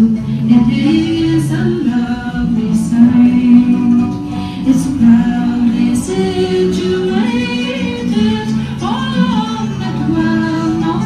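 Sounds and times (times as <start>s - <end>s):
music with singing voice: 0.0s - 11.0s.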